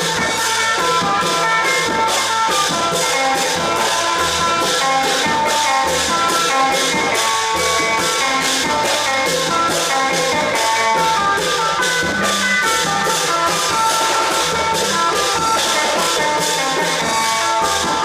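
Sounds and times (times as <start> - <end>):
drums and percussion beat: 0.0 - 18.0.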